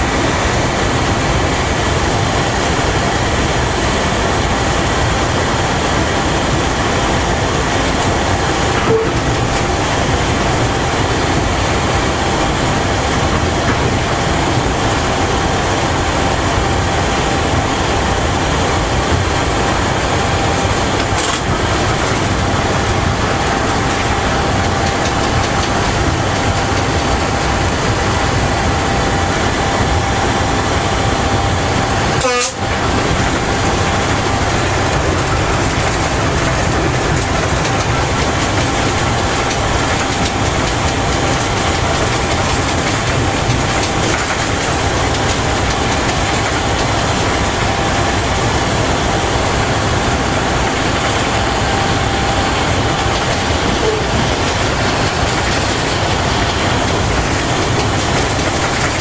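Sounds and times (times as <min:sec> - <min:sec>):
thin steady whine: 0:00.0 - 0:59.0
wheels rushing on rail: 0:00.0 - 0:59.0.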